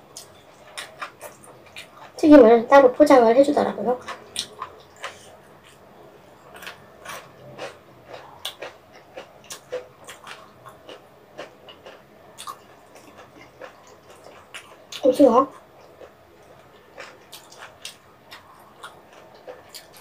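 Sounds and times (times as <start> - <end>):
wet chewing: 4.0 - 20.0.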